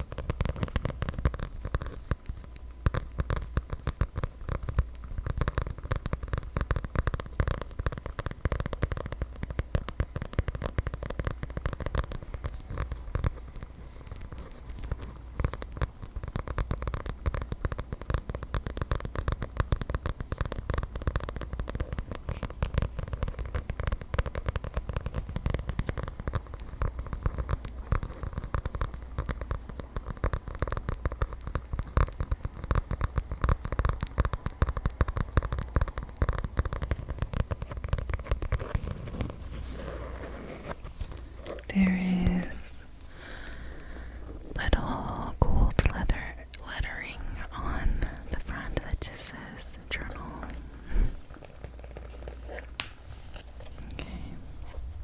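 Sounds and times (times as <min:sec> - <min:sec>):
fingernails tapping and scratching: 0:00.0 - 0:44.6.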